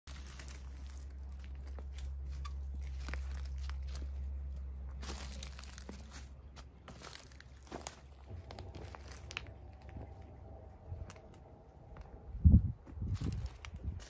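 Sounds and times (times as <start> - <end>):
small crackles: 0.1 - 12.2, 13.1 - 14.0
footsteps on dry leaves and gravel: 0.1 - 14.0
steady low rumble: 0.1 - 14.0.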